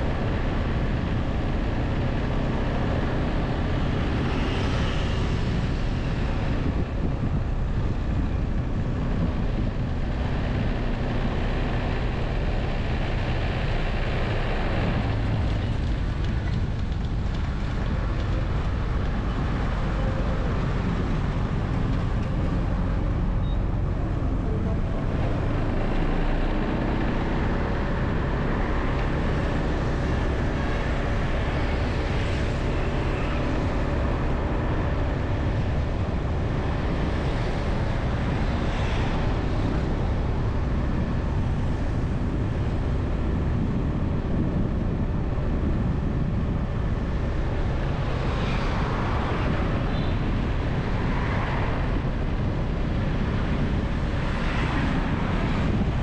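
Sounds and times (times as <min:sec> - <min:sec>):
street traffic: 0:00.0 - 0:56.0
vehicles passing: 0:00.0 - 0:56.0
wind rumble on microphone: 0:00.0 - 0:56.0.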